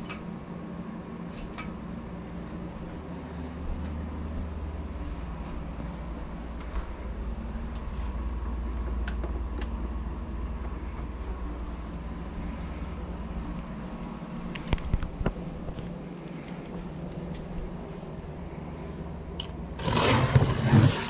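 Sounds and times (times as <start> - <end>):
low mechanical hum and rumble: 0.0 - 21.0.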